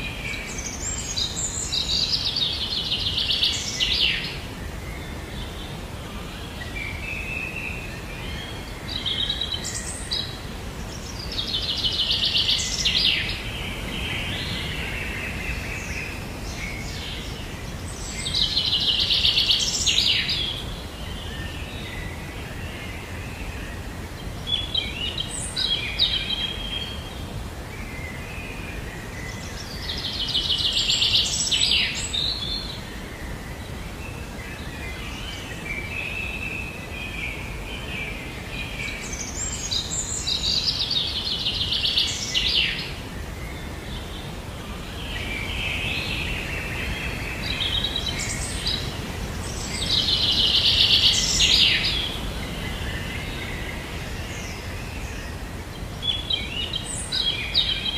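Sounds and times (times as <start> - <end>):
low background hiss: 0.0 - 57.9.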